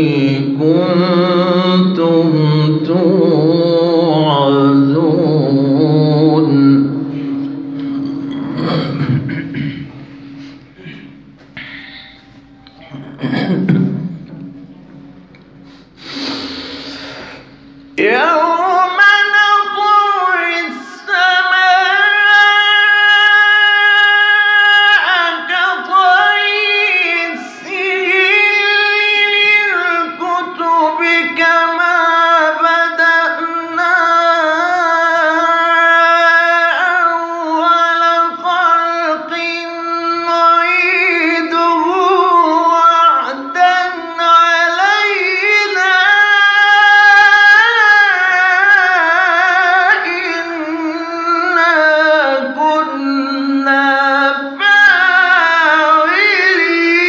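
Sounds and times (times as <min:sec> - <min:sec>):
man chanting unaccompanied: 0:00.0 - 0:10.2, 0:18.0 - 0:57.0.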